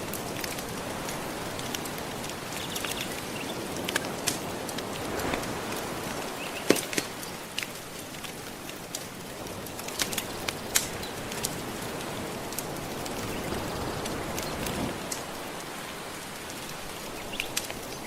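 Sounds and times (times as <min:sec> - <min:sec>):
gentle ocean waves: 0:00.0 - 0:18.0
wood fire crackling: 0:00.0 - 0:18.0.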